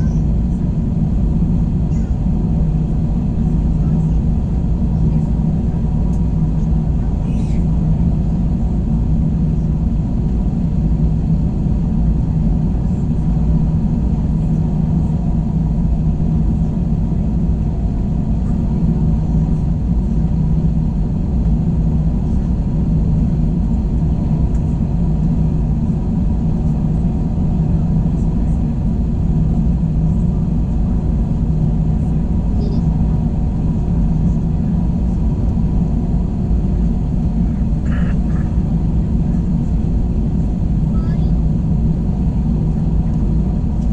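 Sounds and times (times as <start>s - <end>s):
airliner cabin engine drone: 0.0s - 43.9s.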